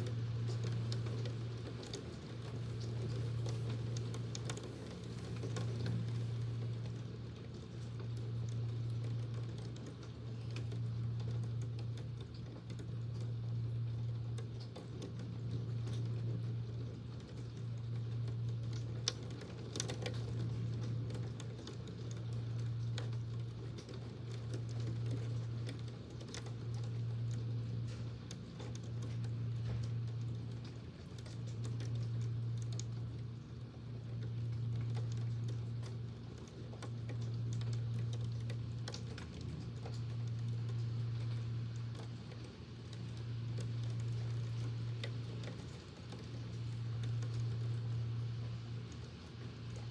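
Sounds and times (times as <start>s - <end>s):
electric fan humming: 0.0s - 49.9s
rain ticking: 0.0s - 49.9s.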